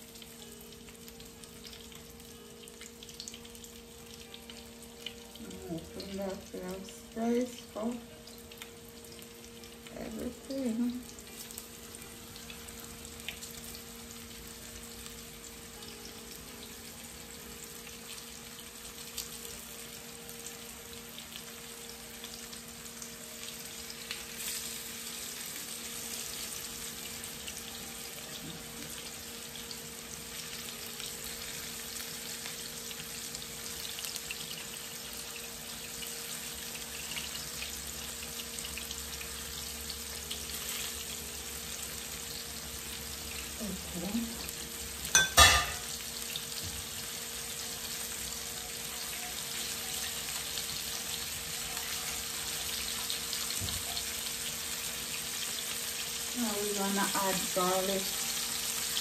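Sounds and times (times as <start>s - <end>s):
fish frying in oil: 0.0s - 59.0s.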